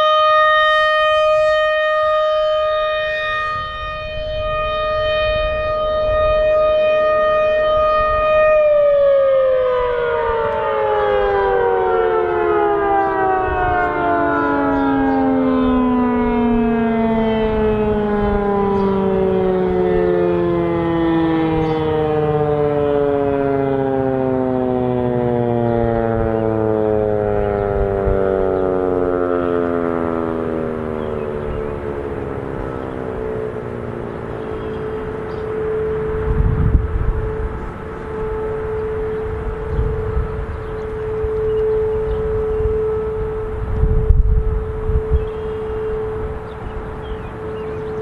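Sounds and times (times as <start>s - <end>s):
tornado siren winding down: 0.0s - 48.0s.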